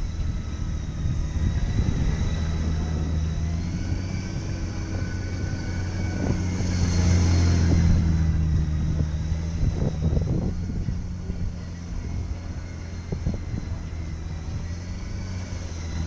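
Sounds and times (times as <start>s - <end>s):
motorcycle engine at low speed: 0.0s - 16.0s.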